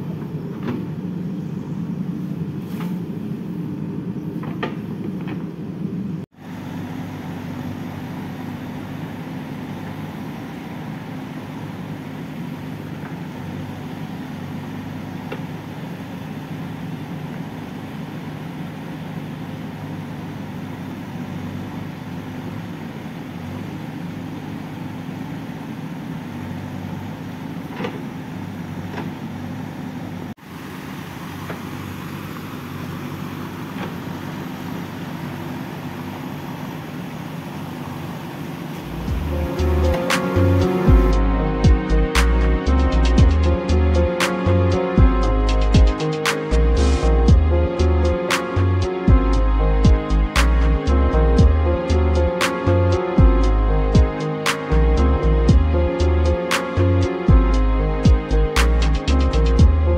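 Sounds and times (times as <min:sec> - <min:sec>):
backhoe diesel engine running: 0:00.0 - 0:59.9.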